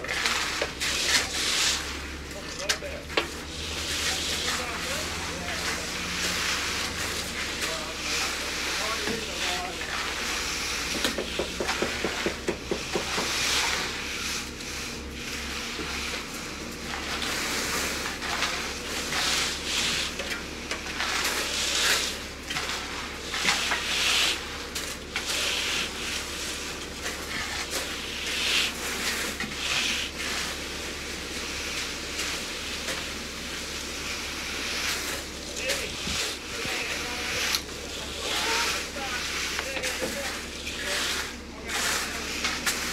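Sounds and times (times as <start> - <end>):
tools scraping wet concrete: 0.0 - 42.9.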